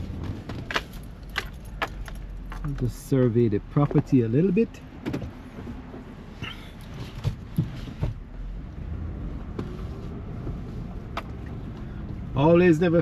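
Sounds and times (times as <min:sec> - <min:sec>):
car moving slowly: 0:00.0 - 0:13.0.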